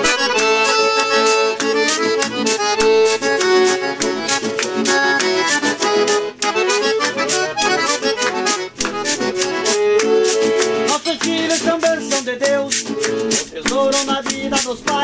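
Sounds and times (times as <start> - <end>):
piano accordion melody: 0.0 - 13.5
acoustic guitar strumming: 0.0 - 15.0
hand shaker beat: 0.0 - 15.0.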